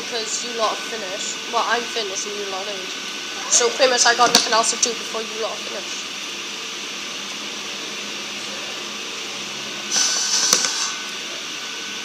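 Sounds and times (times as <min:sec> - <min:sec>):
steady background whir: 0:00.0 - 0:12.0.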